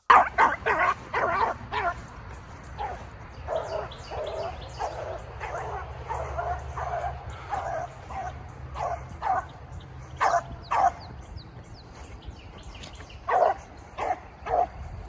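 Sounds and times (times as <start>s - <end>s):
dog baying barks: 0.0s - 11.2s, 13.2s - 14.9s.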